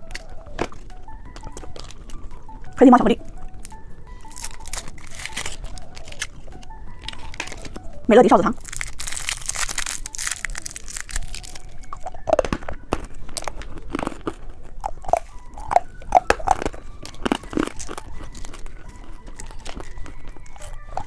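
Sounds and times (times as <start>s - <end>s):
candy wrapper crinkling: 0.0s - 2.6s, 3.5s - 21.0s
hard candy crunching: 0.0s - 21.0s.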